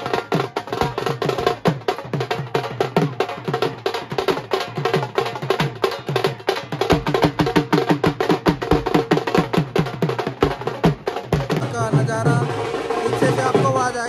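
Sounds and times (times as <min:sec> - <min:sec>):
drums in fast rhythm: 0:00.0 - 0:14.0.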